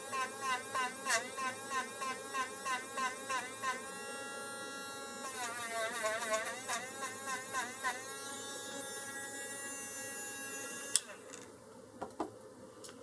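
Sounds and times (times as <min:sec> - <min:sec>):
rotary tool motor whine: 0:00.0 - 0:11.5.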